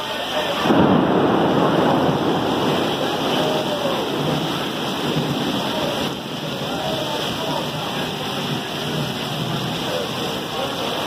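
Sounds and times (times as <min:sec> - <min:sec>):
heavy rain on flooded street: 0:00.0 - 0:11.0.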